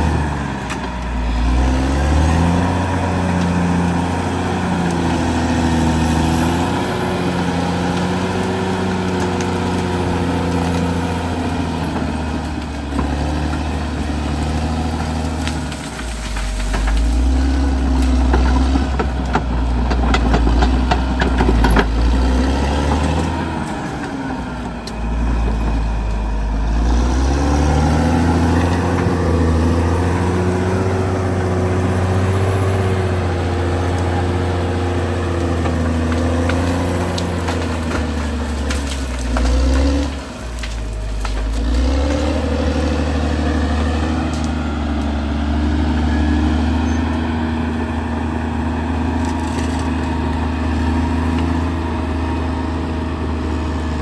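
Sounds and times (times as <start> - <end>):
bulldozer diesel engine under load: 0.0 - 54.0
soil and vegetation crunching: 0.0 - 54.0.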